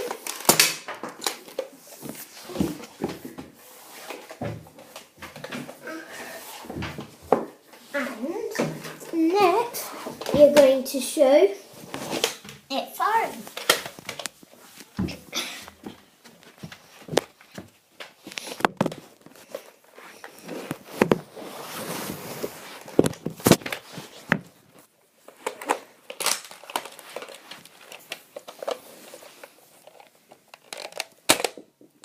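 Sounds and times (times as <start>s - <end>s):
rustling handling noise: 0.0s - 32.0s.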